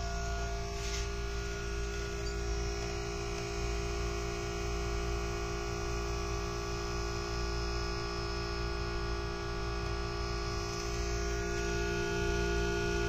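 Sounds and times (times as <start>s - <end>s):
small electric motor humming: 0.0s - 13.0s.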